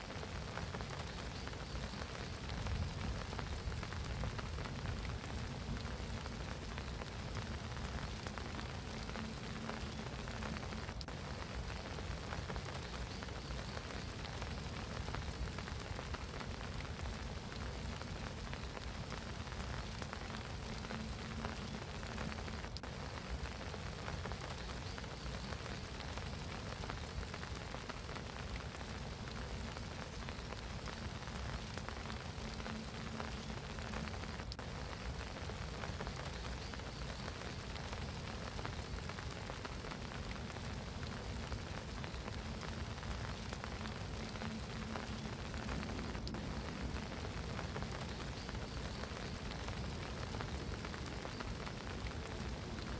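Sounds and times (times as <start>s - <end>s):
rain falling on a pond: 0.0s - 52.9s.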